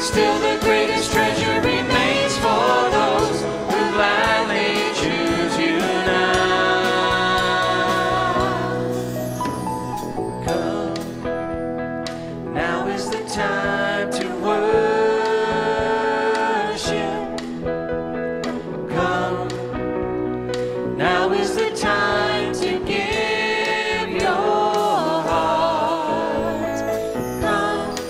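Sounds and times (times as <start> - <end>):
drums: 0.0 - 28.0
guitar: 0.0 - 28.0
piano: 0.0 - 28.0
vocalists singing: 0.0 - 28.0.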